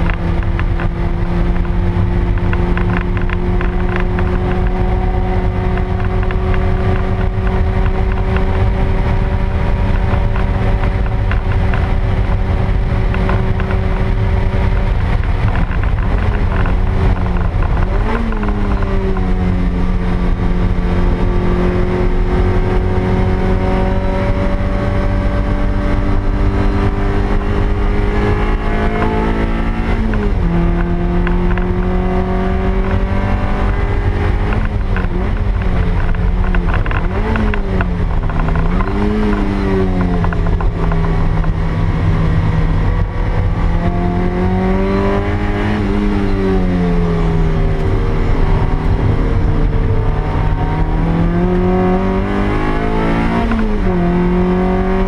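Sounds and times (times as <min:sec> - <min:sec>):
car engine running hard: 0:00.0 - 0:55.0
road and wind noise: 0:00.0 - 0:55.0.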